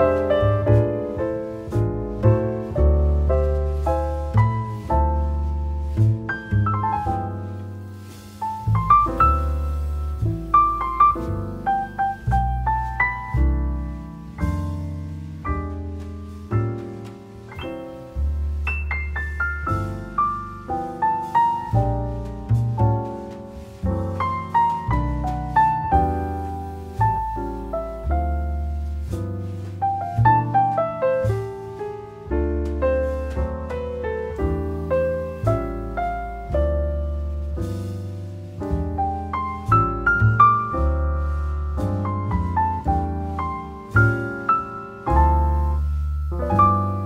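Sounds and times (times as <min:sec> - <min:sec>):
gentle piano melody: 0:00.0 - 0:47.0.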